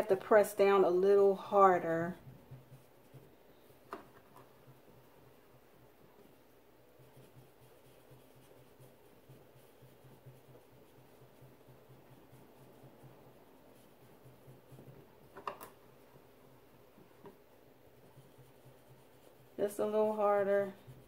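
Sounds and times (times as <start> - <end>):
brush scratching on paper: 0.0 - 21.0.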